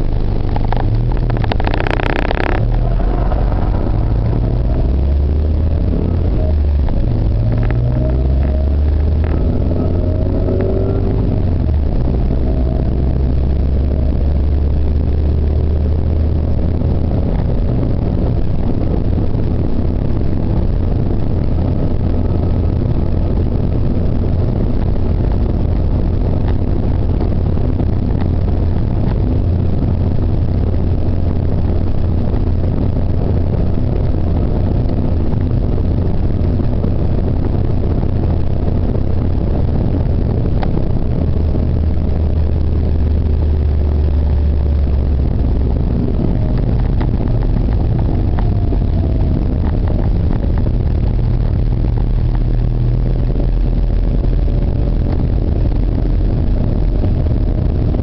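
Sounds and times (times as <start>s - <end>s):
car engine drone: 0.0s - 58.0s
road noise rushing: 0.0s - 58.0s.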